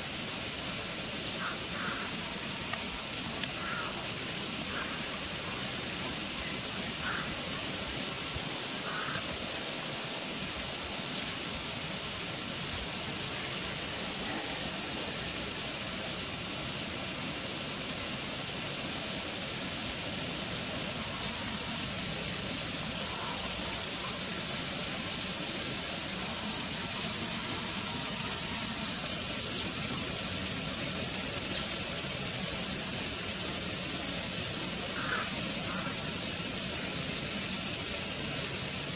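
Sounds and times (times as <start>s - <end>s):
cicadas buzzing: 0.0s - 38.9s.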